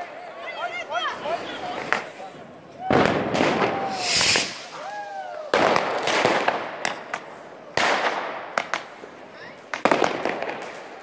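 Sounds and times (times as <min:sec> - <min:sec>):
firework fountain hissing: 0:00.0 - 0:11.0
firework cracks and pops: 0:01.4 - 0:11.0.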